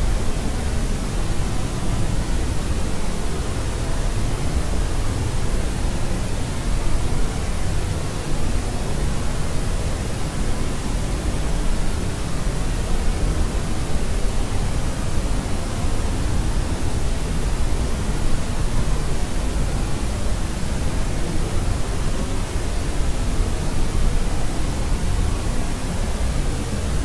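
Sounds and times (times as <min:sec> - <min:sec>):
white noise hiss: 0:00.0 - 0:27.0.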